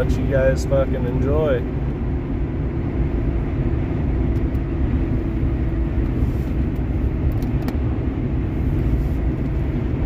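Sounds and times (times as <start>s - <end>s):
car interior road noise: 0.0s - 10.0s.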